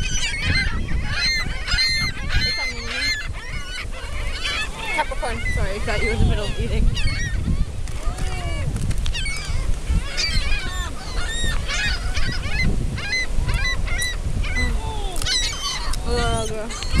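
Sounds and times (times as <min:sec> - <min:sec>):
seagulls squawking: 0:00.0 - 0:17.0.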